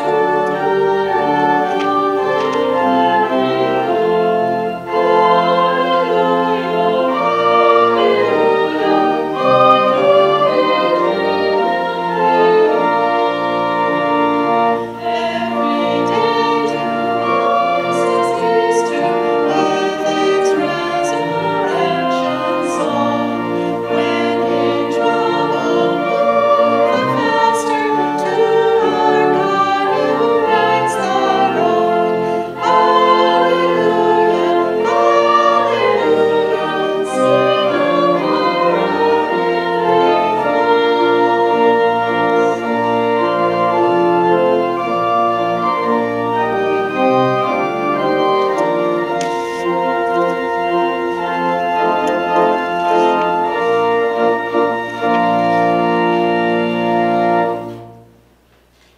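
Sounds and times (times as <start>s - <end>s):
organ chords: 0.0s - 58.9s.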